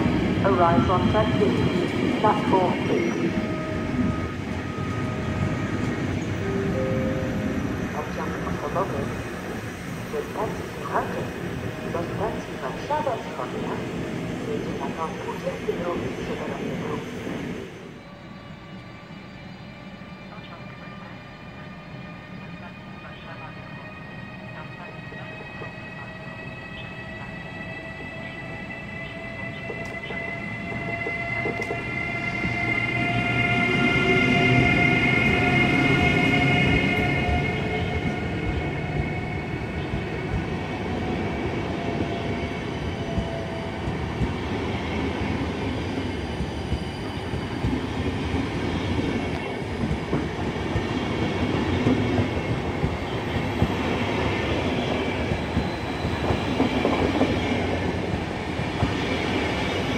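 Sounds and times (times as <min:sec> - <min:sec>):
locomotive whine: 0:00.0 - 0:59.9.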